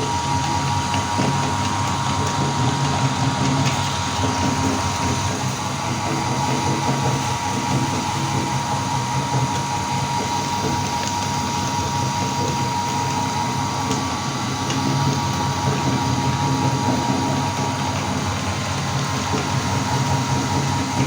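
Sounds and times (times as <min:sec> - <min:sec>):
meat grinder motor humming: 0:00.0 - 0:21.0.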